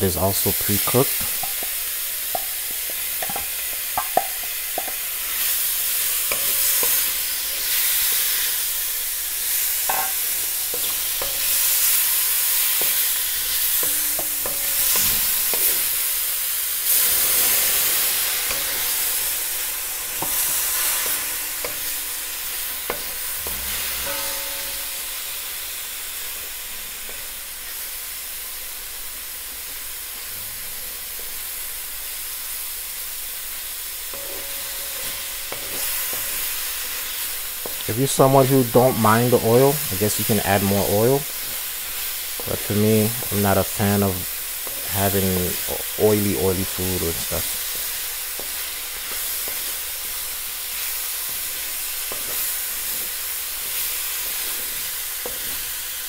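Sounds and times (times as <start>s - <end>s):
mushrooms sizzling in oil: 0.0s - 56.0s.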